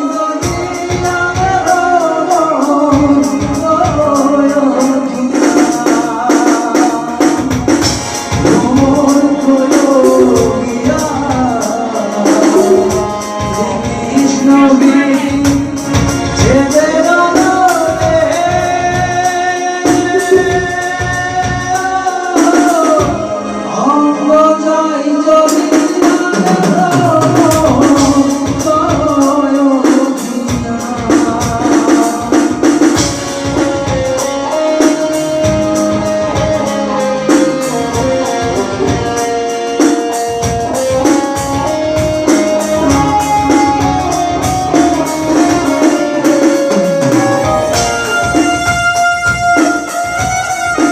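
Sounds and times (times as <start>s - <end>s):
electronic keyboard melody: 0.0s - 50.9s
rhythmic percussion accompaniment: 0.0s - 50.9s.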